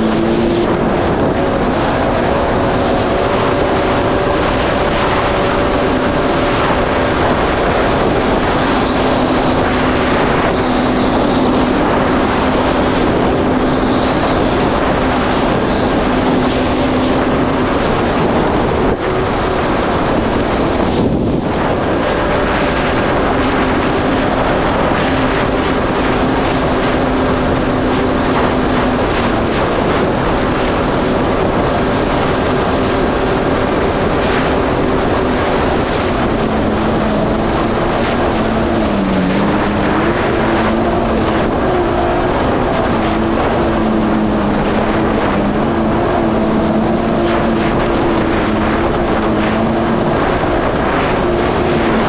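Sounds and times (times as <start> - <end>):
jet ski engine running: 0.0 - 52.0
rush of wind and water: 0.0 - 52.0.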